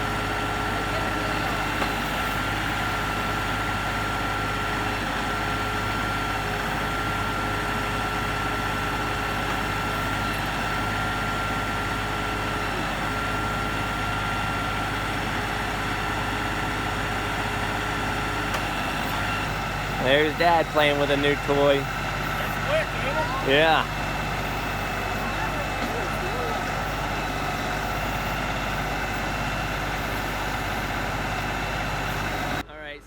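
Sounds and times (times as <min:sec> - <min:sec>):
diesel tractor engine running: 0:00.0 - 0:33.0
thin steady whine: 0:00.9 - 0:33.0.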